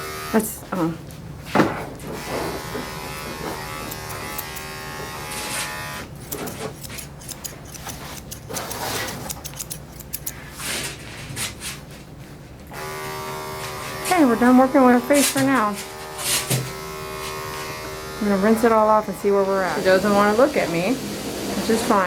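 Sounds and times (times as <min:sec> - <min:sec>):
electric clippers buzzing: 0:00.0 - 0:00.5, 0:02.1 - 0:10.4, 0:12.7 - 0:22.0.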